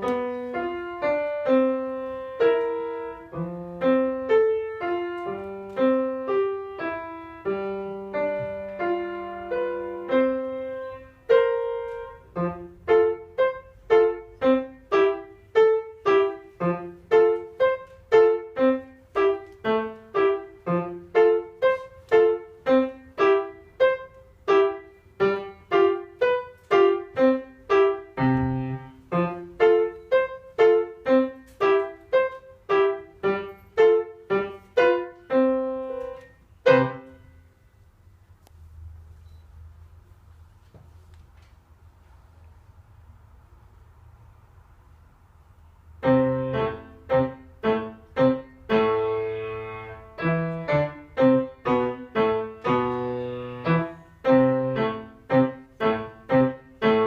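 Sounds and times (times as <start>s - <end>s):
child playing piano: 0.0s - 37.6s, 46.0s - 57.0s.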